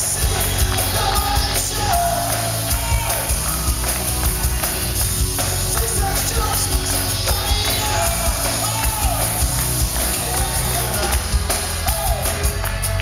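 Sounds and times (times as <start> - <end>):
man singing: 0.0 - 4.6, 5.6 - 13.0
acoustic guitar: 0.0 - 13.0
steady beat: 0.0 - 13.0.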